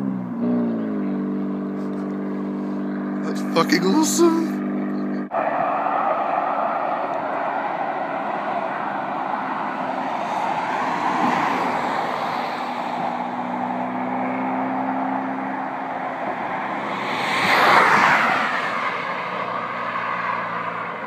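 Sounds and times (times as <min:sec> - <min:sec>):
car passing: 0:00.0 - 0:21.0.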